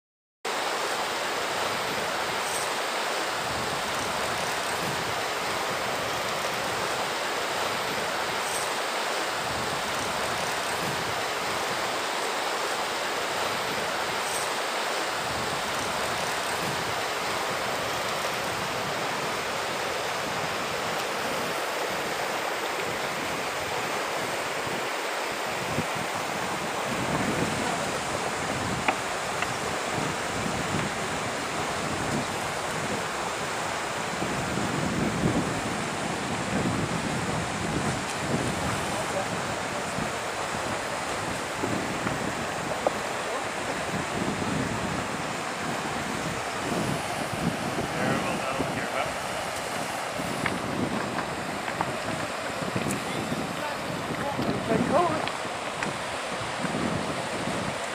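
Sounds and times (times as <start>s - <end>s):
wind: 0.4s - 57.9s
river water rushing over rocks: 0.5s - 57.9s.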